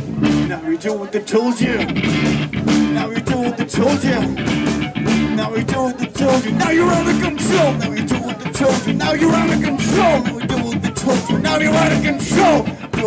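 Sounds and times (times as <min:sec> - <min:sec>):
electric guitar riff: 0:00.0 - 0:00.6, 0:01.6 - 0:13.0
electric bass riff: 0:00.0 - 0:00.7, 0:01.6 - 0:13.0
drum hits: 0:01.8 - 0:13.0.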